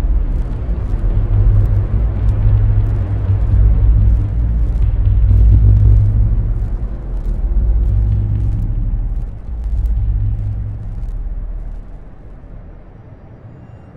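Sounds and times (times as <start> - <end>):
deep low rumble: 0.0 - 12.9
low tone hum: 0.0 - 12.9.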